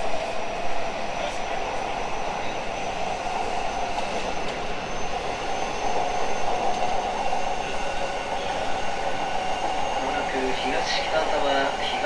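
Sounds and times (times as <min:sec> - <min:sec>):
train wheel and track noise: 0:00.0 - 0:12.0.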